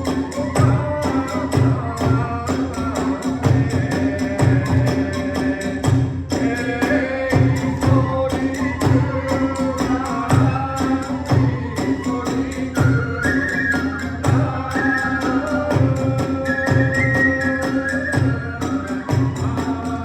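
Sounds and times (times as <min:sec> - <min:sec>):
bamboo flute melody: 0:00.0 - 0:05.8, 0:06.4 - 0:20.0.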